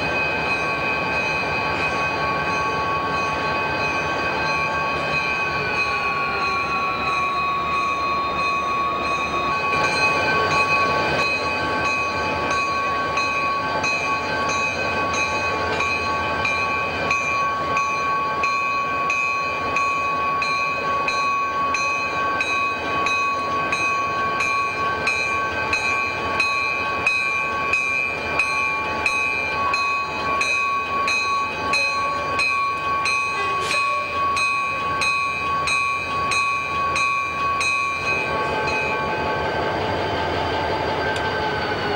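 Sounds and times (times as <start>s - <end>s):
heavy machinery whine: 0.0s - 41.9s.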